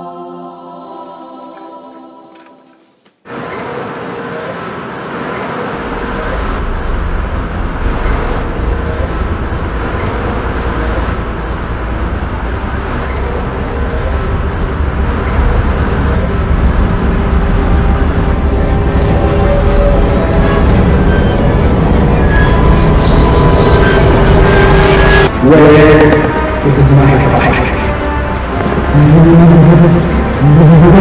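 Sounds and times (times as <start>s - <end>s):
loud steady rumbling: 3.3s - 31.0s.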